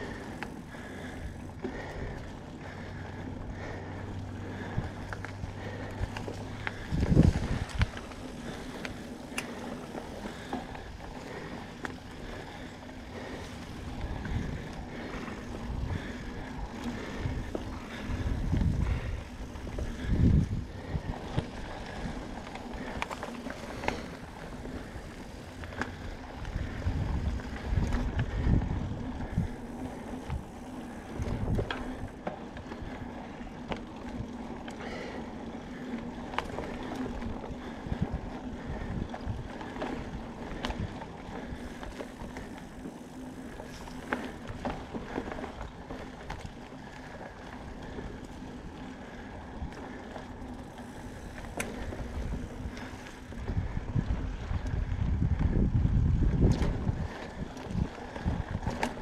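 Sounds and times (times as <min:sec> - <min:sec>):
bike clicks and rattles: 0:00.0 - 0:59.0
bike tyres rolling on dirt: 0:00.0 - 0:59.0.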